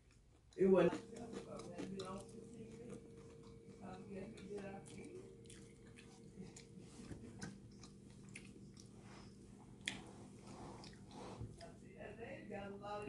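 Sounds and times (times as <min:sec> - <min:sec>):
chewing with mouth clicks: 0:00.0 - 0:11.8
faint steady hum: 0:00.0 - 0:13.0.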